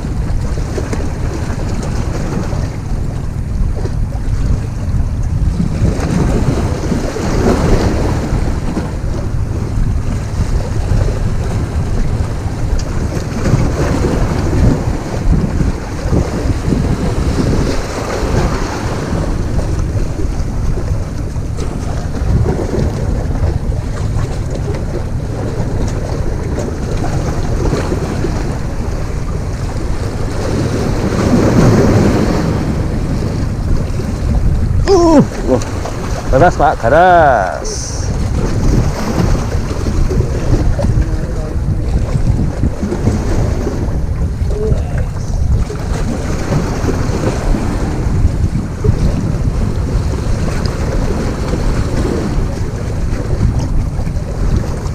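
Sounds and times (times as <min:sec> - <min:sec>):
sea waves washing against rocks: 0:00.0 - 0:54.9
wind buffeting microphone: 0:00.0 - 0:54.9.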